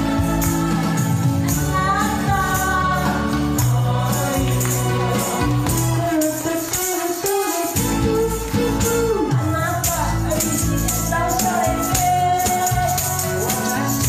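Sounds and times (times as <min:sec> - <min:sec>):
karaoke backing track: 0:00.0 - 0:14.0
woman singing into microphone: 0:00.0 - 0:14.0.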